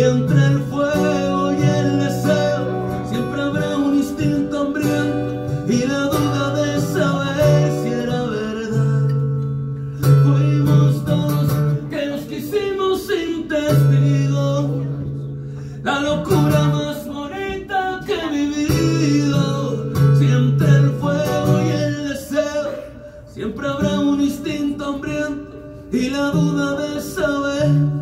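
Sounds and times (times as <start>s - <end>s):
man singing: 0.0s - 28.0s
strummed acoustic guitar: 0.0s - 28.0s.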